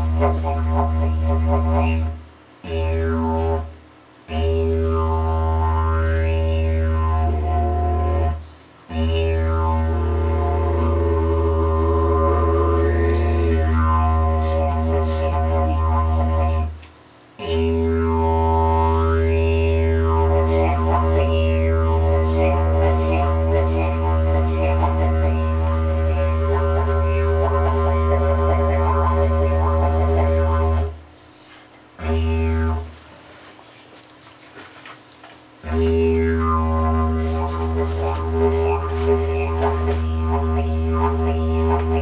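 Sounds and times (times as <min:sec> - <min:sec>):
didgeridoo drone: 0:00.0 - 0:31.1, 0:32.0 - 0:33.2, 0:35.6 - 0:42.0.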